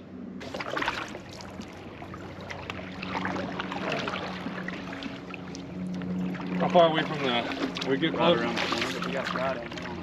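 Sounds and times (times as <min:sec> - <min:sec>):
low steady hum: 0:00.0 - 0:10.0
water splashing against kayak hull: 0:00.4 - 0:10.0.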